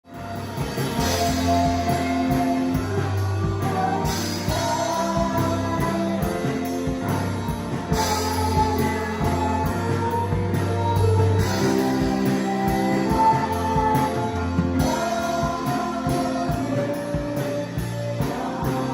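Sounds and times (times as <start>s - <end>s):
worship band music: 0.0s - 18.9s.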